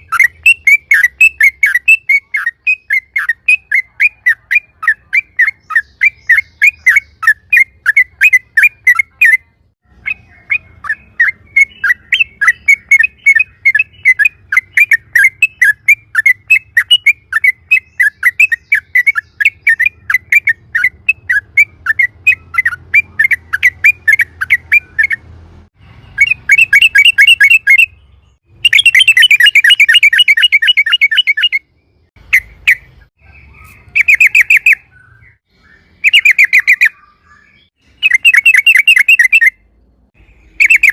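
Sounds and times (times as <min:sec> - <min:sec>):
bulbul singing: 0:00.0 - 0:40.9.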